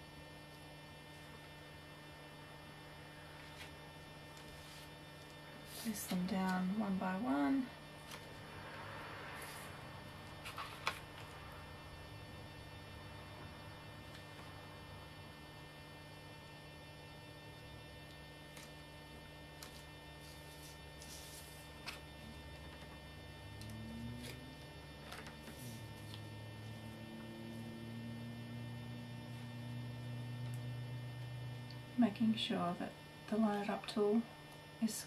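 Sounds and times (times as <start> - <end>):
electrical mains hum with whine: 0.0 - 35.0.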